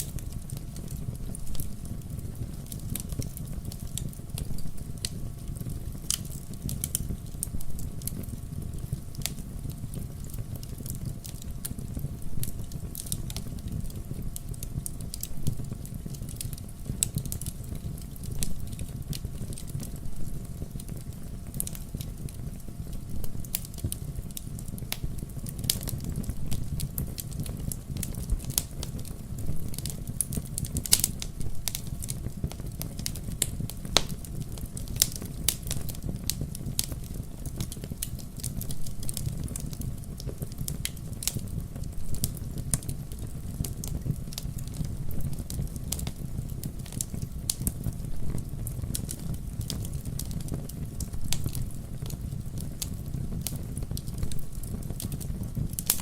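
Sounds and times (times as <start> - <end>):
logs burning in fireplace: 0.0 - 56.0.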